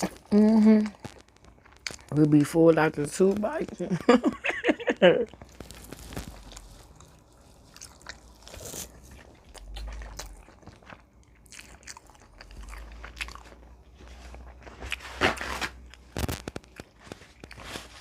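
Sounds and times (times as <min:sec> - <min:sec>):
person chewing crunchy food: 0:00.0 - 0:03.7, 0:05.2 - 0:18.0.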